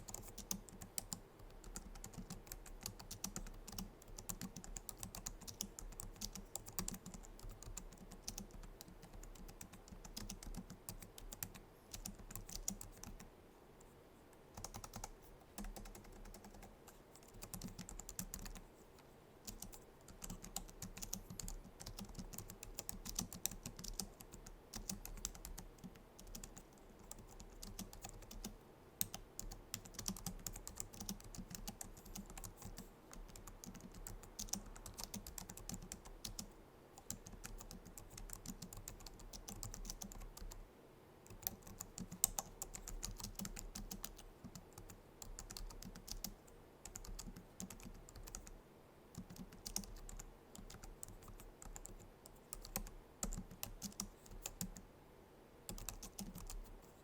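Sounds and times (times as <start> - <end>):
keyboard typing clicks: 0.0 - 13.3, 14.6 - 18.6, 19.5 - 40.6, 41.3 - 48.6, 49.2 - 54.8, 55.7 - 56.7.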